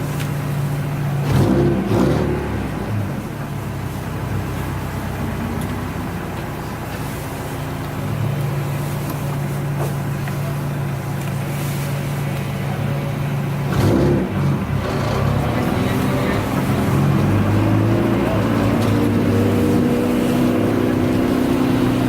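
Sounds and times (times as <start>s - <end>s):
car engine running from inside: 0.0s - 22.0s.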